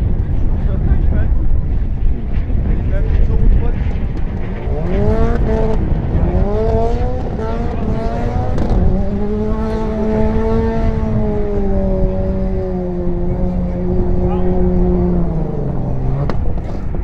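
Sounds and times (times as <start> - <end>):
rally car engine revving: 1.6 - 17.0.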